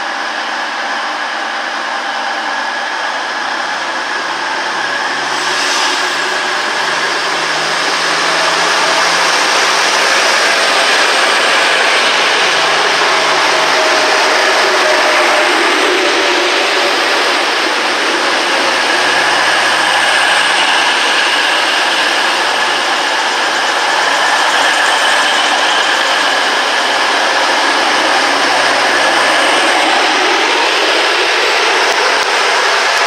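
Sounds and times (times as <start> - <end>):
diesel train passing: 0.0 - 33.0.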